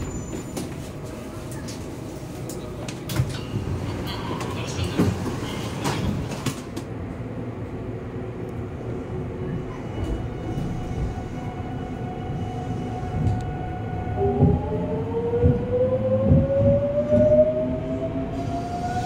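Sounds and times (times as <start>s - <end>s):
train low rumble and hum: 0.0s - 19.0s.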